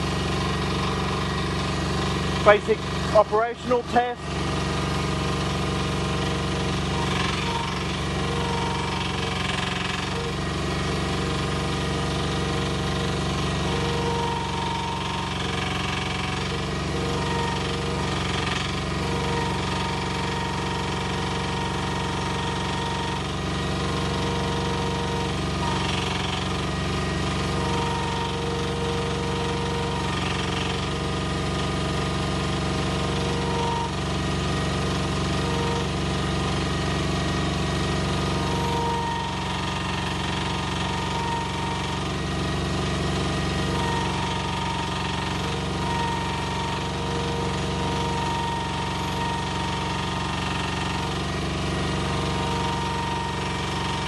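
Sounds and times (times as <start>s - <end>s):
diesel engine chugging: 0.0s - 54.0s
hydraulic pump whine: 0.0s - 54.0s.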